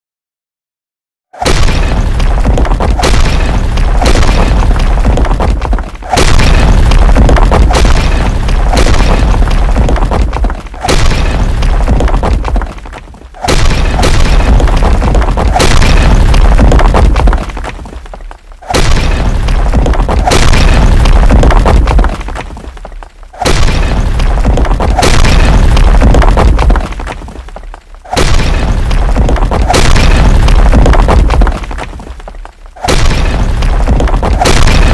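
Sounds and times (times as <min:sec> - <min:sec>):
rumble of tumbling rubble: 0:01.4 - 0:34.9
stone falling and breaking: 0:01.4 - 0:34.9.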